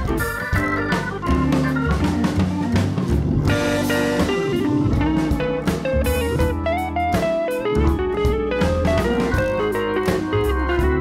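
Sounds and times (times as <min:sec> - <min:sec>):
bass and drums: 0:00.0 - 0:11.0
guitar melody: 0:00.0 - 0:11.0.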